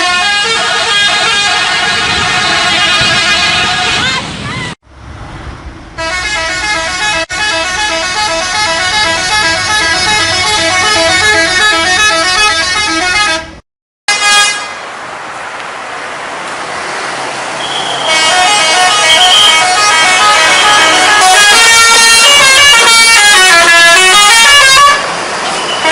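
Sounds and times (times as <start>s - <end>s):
bus musical air horn: 0.0s - 4.8s, 6.0s - 14.8s, 17.6s - 25.9s
traffic noise: 0.0s - 25.9s.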